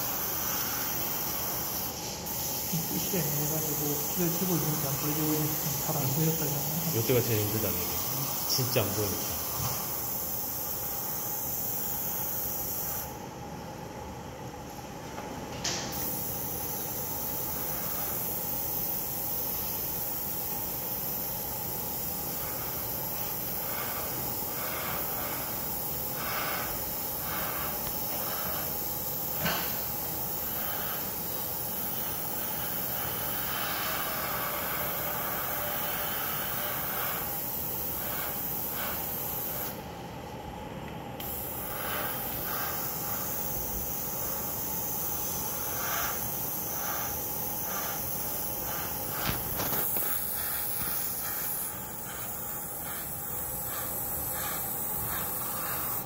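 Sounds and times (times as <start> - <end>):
airbrush hissing: 0.0 - 13.2, 15.9 - 39.9, 41.2 - 56.0.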